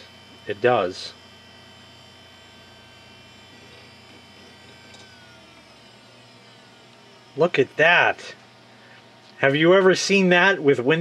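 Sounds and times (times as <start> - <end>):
computer fans whining: 0.0 - 11.0
hard drive spinning down: 0.0 - 11.0.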